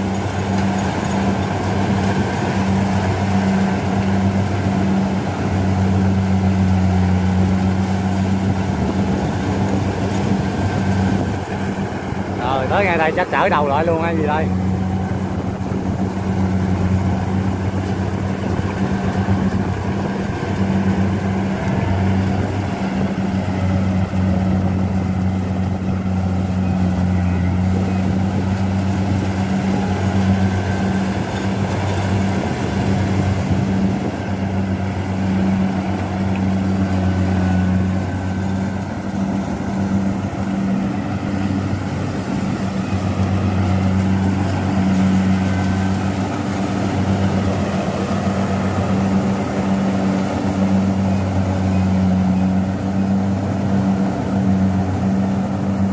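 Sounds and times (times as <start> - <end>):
combine harvester engine drone: 0.0 - 55.9
harvesting machinery noise: 0.0 - 55.9.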